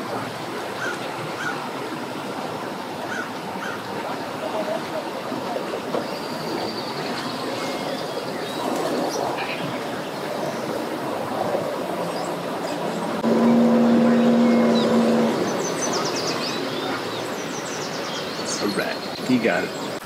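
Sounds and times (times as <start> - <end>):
outboard motor running: 0.0 - 20.0
propeller churning water: 0.0 - 20.0.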